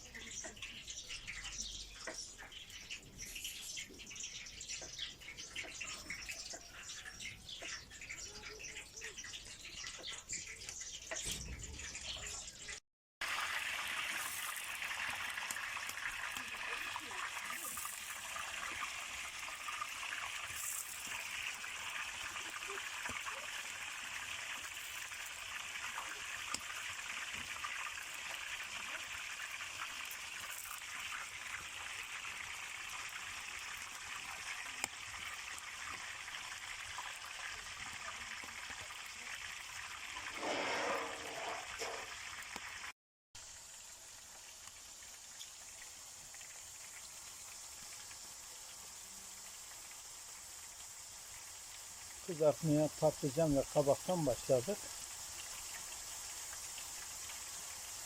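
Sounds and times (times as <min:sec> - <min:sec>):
hot oil sizzling in a pan: 0:00.0 - 0:58.0.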